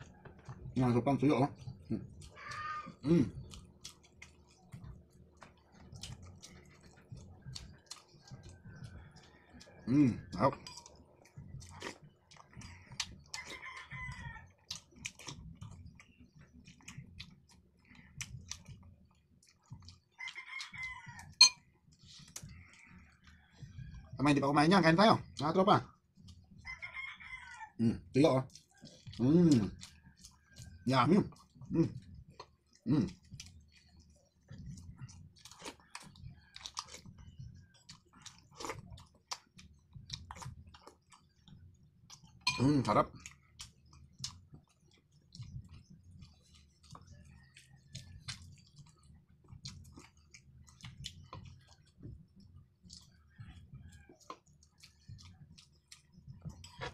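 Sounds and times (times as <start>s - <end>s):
chewing and mouth clicks: 0.0s - 56.9s.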